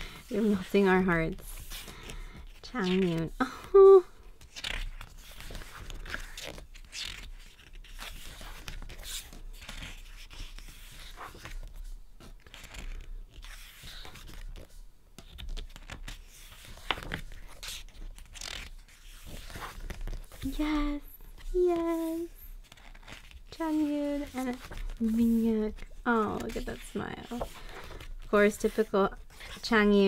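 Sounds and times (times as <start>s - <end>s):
pages rustling: 0.0s - 3.6s, 4.3s - 30.0s.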